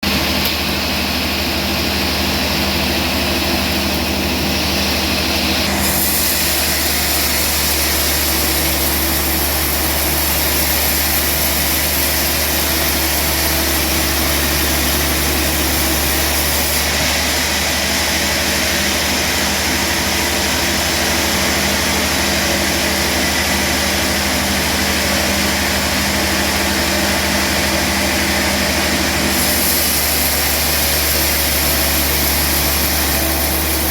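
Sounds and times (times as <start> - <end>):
steady machinery hiss: 0.1 - 33.9.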